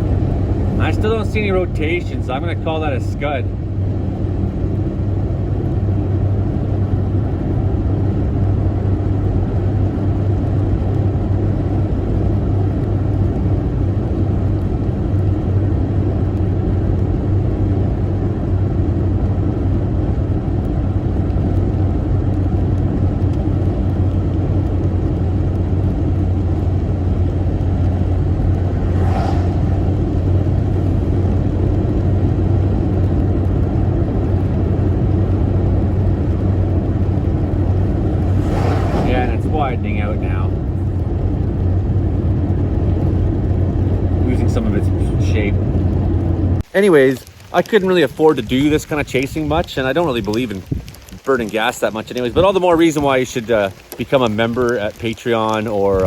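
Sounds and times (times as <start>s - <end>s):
car hum and rumble: 0.0s - 46.7s.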